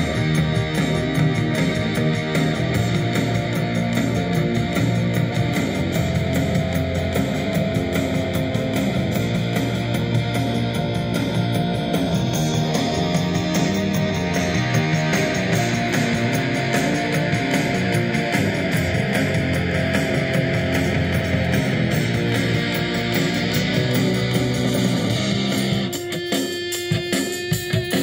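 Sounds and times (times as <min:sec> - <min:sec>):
guitar music through amplifier: 0:00.0 - 0:28.0.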